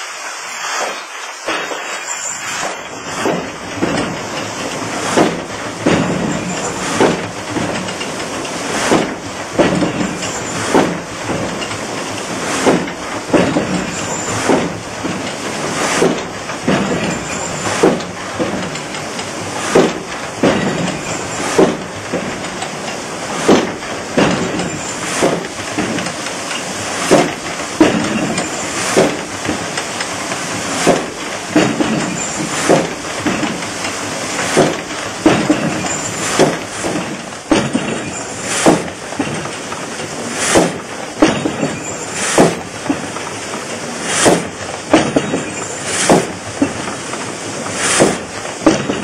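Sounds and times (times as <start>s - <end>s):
continuous rushing water: 0.0s - 49.0s
frame saw mechanism knocking: 3.1s - 49.0s.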